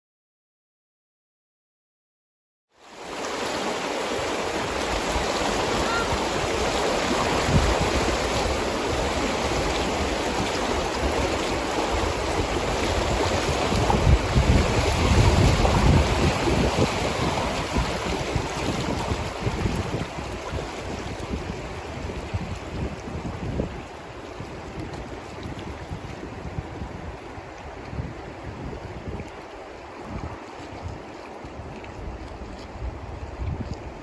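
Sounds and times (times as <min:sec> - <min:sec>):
flowing river water: 0:02.8 - 0:34.0
wind buffeting microphone: 0:04.2 - 0:34.0.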